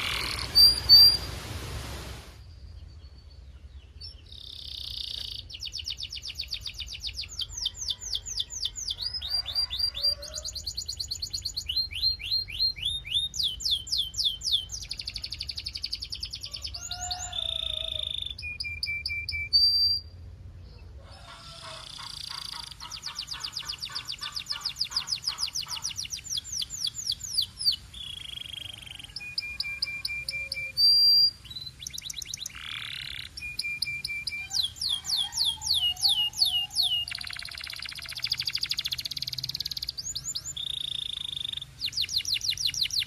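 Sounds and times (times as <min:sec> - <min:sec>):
canary singing trills: 0:00.0 - 0:01.4, 0:02.7 - 0:21.0, 0:21.6 - 0:43.0.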